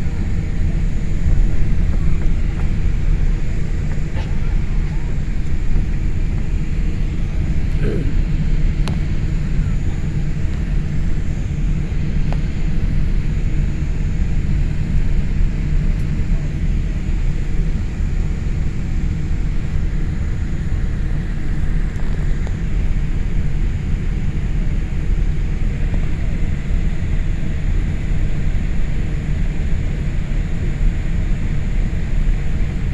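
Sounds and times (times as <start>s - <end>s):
airplane cabin engine rumble: 0.0s - 32.9s.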